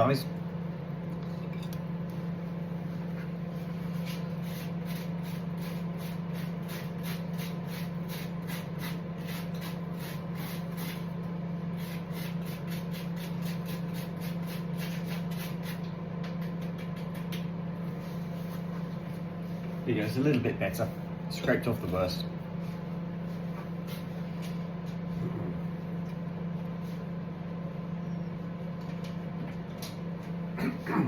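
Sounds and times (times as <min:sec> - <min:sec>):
low appliance hum: 0:00.0 - 0:31.0.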